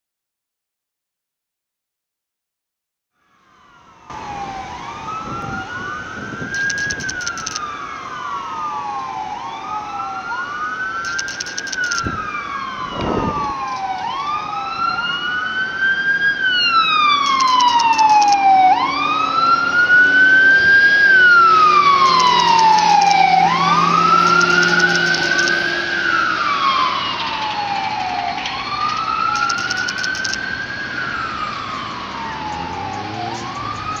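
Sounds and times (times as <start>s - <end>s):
ambulance siren wailing: 3.2s - 34.0s.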